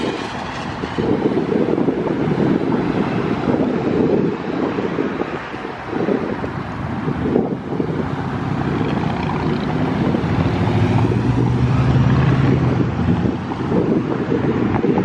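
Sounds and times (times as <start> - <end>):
road traffic passing: 0.0 - 15.0
vehicle engine hum: 0.0 - 15.0
wind buffeting microphone: 0.0 - 15.0.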